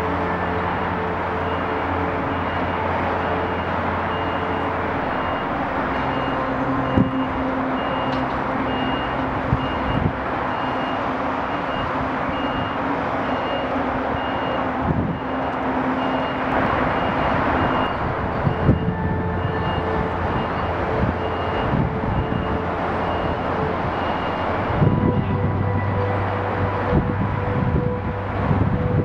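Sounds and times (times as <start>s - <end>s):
reversing alarm beeping: 0.0s - 28.3s
diesel engines running: 0.0s - 29.0s.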